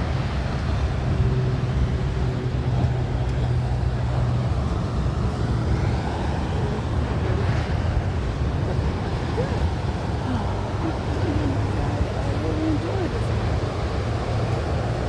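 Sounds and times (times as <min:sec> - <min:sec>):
road traffic rumble: 0:00.0 - 0:15.0
vehicle engine humming: 0:00.0 - 0:15.0.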